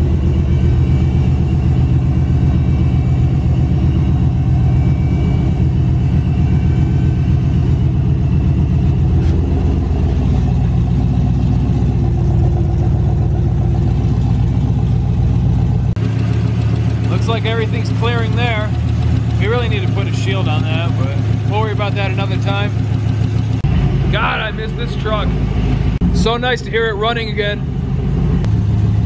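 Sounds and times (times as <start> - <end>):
pickup truck engine idling: 0.0 - 29.0.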